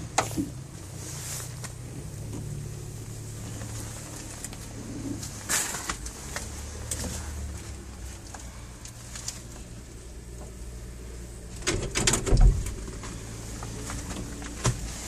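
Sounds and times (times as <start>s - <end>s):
handling clicks and rustles: 0.0s - 10.8s, 11.4s - 15.0s.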